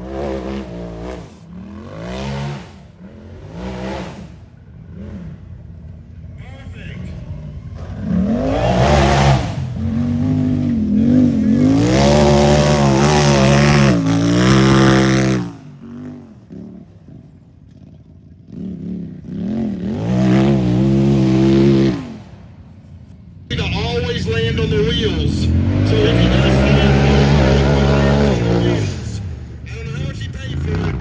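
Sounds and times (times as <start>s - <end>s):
utility vehicle engine revving: 0.0s - 31.0s.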